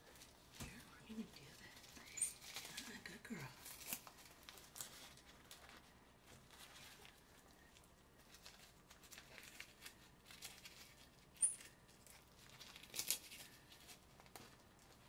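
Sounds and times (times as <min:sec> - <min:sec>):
diaper crinkling and rustling: 0:00.0 - 0:15.0.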